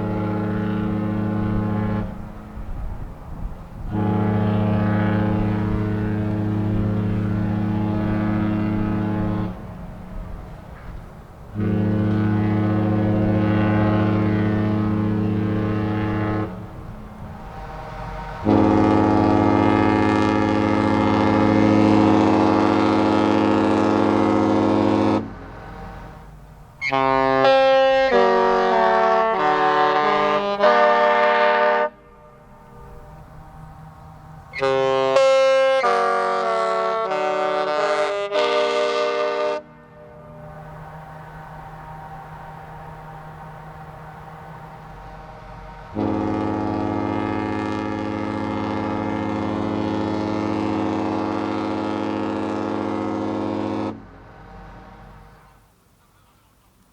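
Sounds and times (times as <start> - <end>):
ship's horn deep blast: 0.0 - 55.6.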